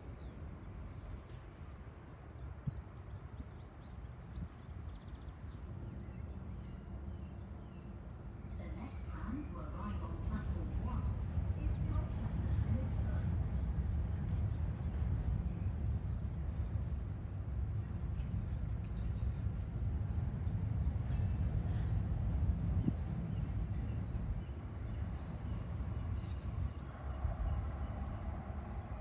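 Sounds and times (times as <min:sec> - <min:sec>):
tram approaching hum: 0:00.0 - 0:29.0
small birds chirping: 0:00.2 - 0:27.2
steady low rumble: 0:04.2 - 0:29.0.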